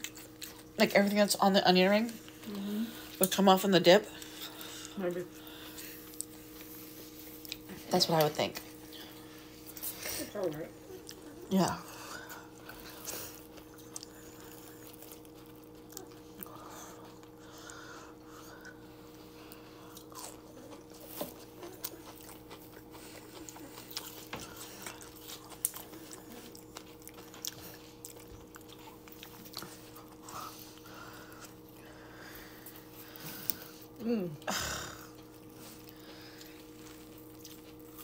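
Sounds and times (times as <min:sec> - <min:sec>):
chewing crunchy food: 0:00.0 - 0:38.0
faint steady hum: 0:00.0 - 0:38.0.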